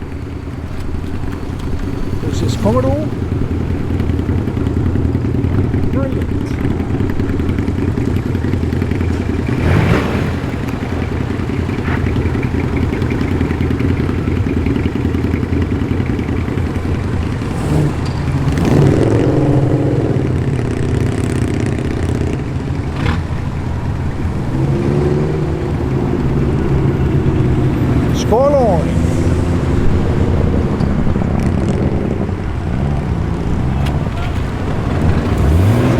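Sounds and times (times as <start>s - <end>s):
car engine revving and passing: 0.0s - 35.9s
car engines rumbling: 0.0s - 35.9s.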